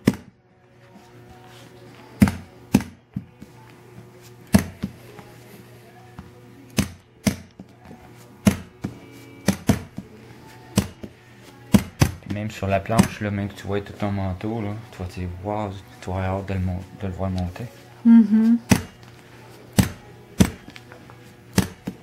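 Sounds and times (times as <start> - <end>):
faint background music: 0.0 - 22.0.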